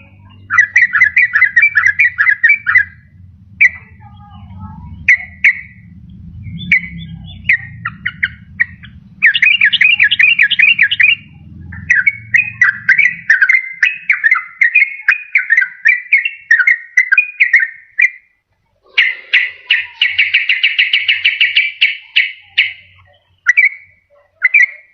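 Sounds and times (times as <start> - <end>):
bird singing warbling notes: 0.0 - 24.9.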